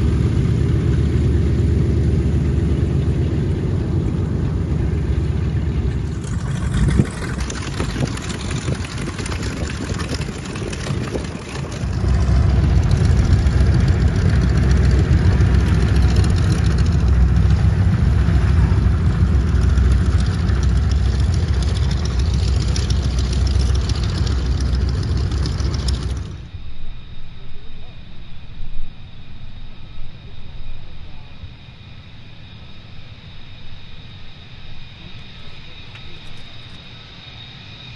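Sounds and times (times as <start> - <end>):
radial piston aircraft engines rumbling: 0.0 - 37.9.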